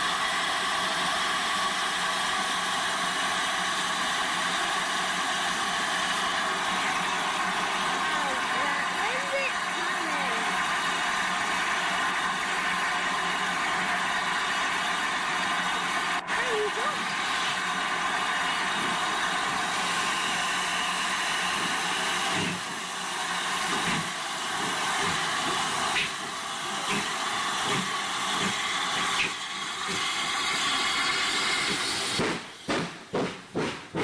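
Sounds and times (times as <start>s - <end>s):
locomotive exhaust chuffs: 0.0s - 34.0s
steam locomotive hissing: 0.0s - 34.0s.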